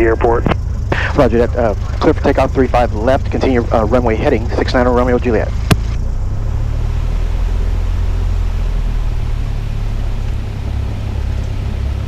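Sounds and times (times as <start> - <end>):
light aircraft engine inside cabin: 0.0 - 12.0.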